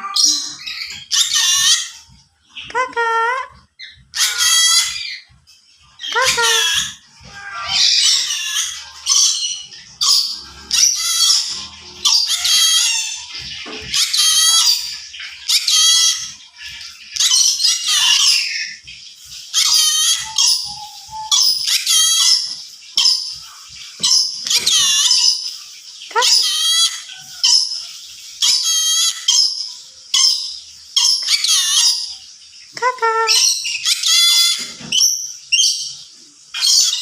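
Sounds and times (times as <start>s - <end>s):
parrot squeaky calls: 0.0s - 2.0s, 2.6s - 5.3s, 6.0s - 18.8s, 19.4s - 37.0s.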